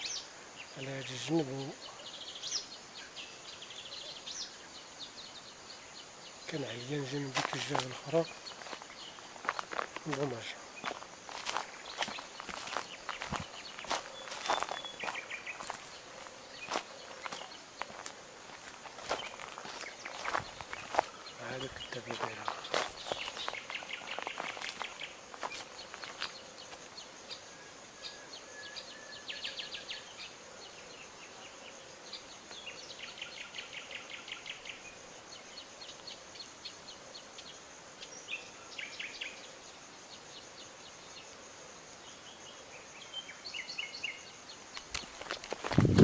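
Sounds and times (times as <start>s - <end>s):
faint insect buzz: 0.0s - 46.0s
small birds chirping and trilling: 0.0s - 46.0s.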